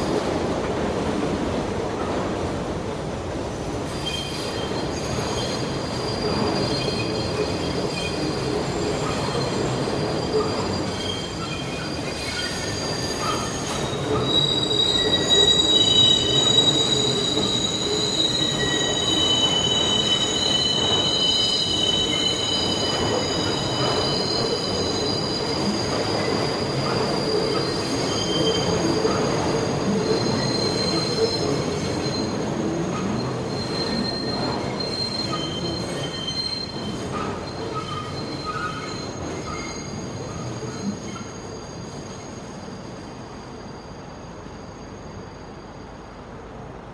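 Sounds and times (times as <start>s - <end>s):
subway train rumbling on track: 0.0s - 46.9s
high-pitched wheel squeal: 4.0s - 46.1s.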